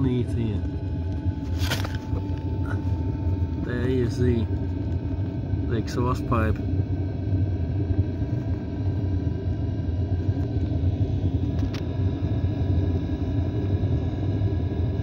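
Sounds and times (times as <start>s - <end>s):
faint steady tones: 0.0s - 15.0s
heater exhaust combustion noise: 0.0s - 15.0s.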